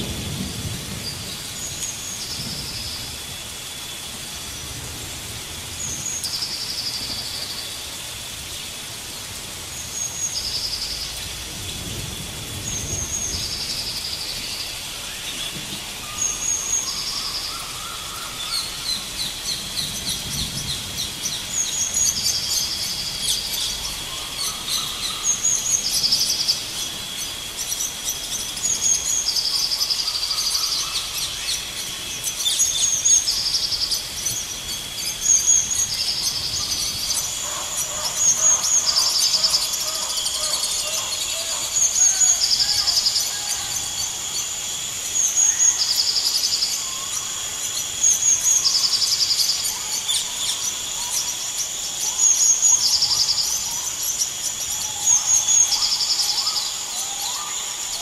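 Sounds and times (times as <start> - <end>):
tree frogs chirping: 5.5 - 58.0.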